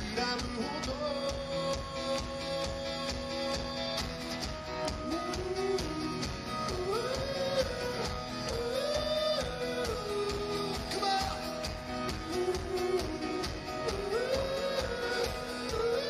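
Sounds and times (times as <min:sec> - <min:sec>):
bass: 0:00.0 - 0:16.0
drums steady beat: 0:00.0 - 0:16.0
person singing lead melody: 0:00.0 - 0:16.0
strummed acoustic guitars: 0:00.0 - 0:16.0.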